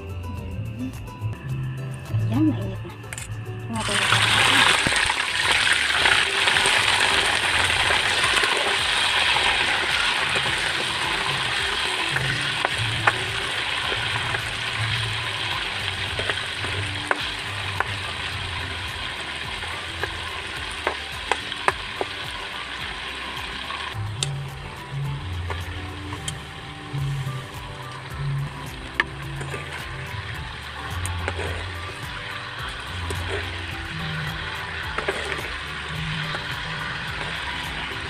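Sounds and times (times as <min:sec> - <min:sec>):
meat sizzling in hot oil: 0:03.8 - 0:38.0.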